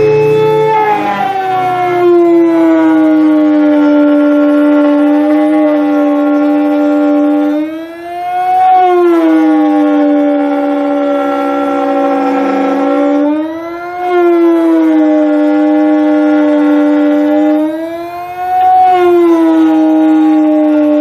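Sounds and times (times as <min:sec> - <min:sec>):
siren-like wailing tone: 0:00.0 - 0:21.0.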